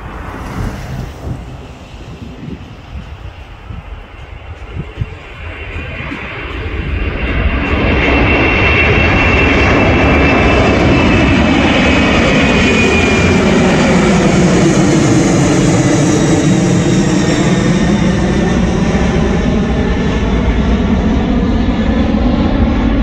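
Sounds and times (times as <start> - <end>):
jet engine whine: 0.0 - 23.0
jet rumble: 0.0 - 23.0.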